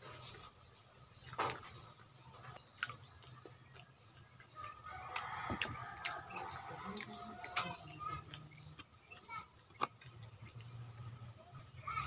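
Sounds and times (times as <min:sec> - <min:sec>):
soft chewing: 0:00.0 - 0:11.8.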